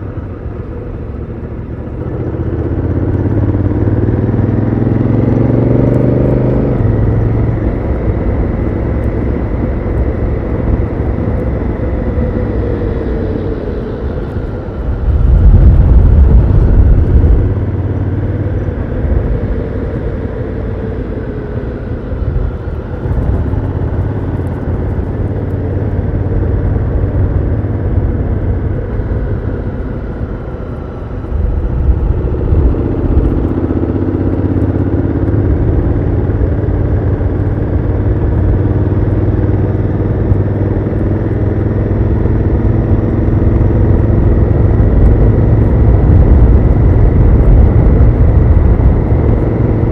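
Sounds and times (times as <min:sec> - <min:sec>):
motorcycle engine riding: 0:00.0 - 0:49.9.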